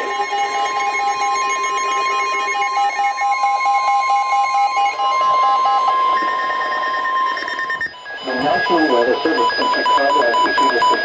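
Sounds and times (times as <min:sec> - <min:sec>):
rapidly pulsing electronic beep: 0:00.0 - 0:11.0
steady electronic alarm tone: 0:00.0 - 0:11.0.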